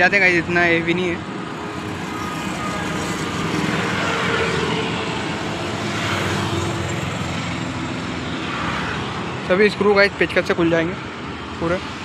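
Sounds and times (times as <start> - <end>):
motor vehicle traffic: 0.0 - 12.0.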